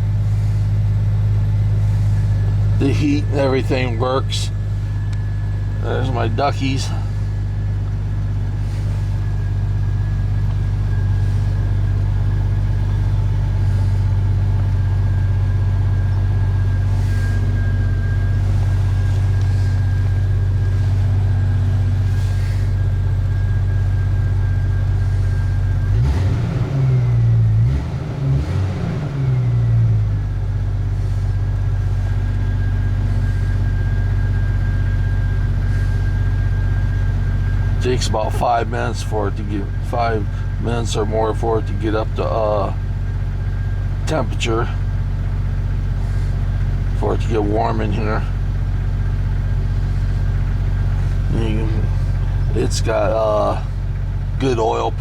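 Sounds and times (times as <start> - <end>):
car engine idling and revving: 0.0 - 55.0
thin steady whine: 0.0 - 55.0.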